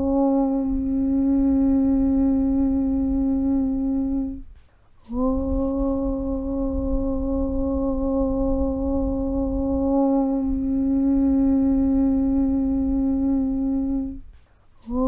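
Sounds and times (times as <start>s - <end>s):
low rumble: 0.0s - 15.0s
person chanting low hum: 0.0s - 15.0s.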